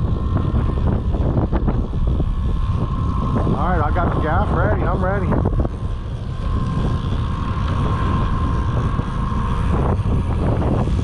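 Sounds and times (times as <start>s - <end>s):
boat motor running: 0.0s - 11.0s
steady whine: 0.0s - 11.0s
wind buffeting microphone: 0.0s - 11.0s.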